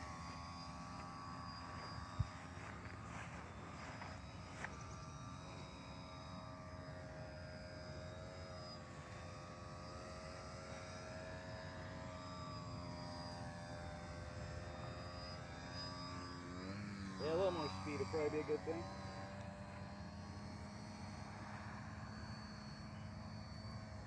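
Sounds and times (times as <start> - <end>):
model plane motor whine: 0.0 - 24.0.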